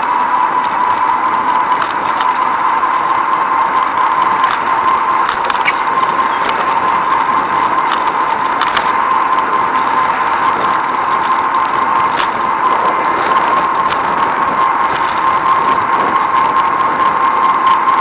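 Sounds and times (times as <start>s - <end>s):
bicycle rattling over bumps: 0.0s - 18.0s
bicycle rolling on asphalt: 0.0s - 18.0s.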